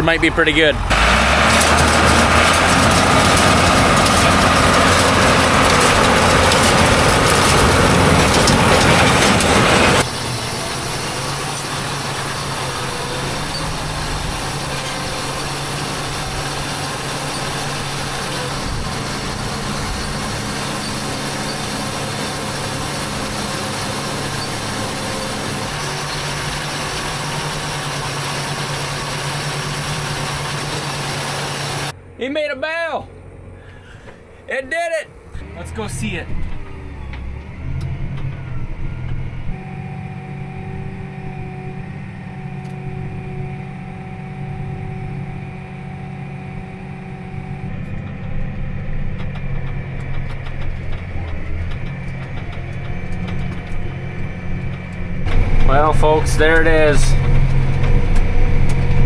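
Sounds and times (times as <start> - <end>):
tractor and baler running: 0.0 - 59.0.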